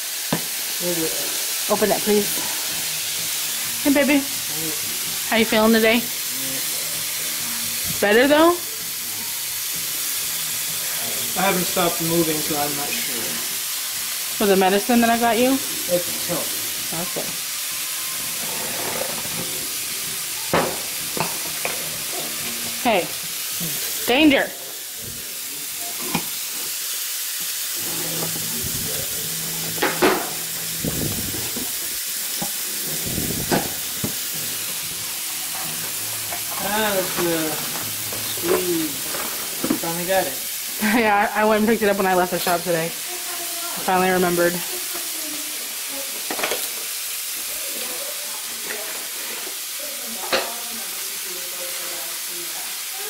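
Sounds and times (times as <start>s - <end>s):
steady hiss: 0.0s - 48.1s.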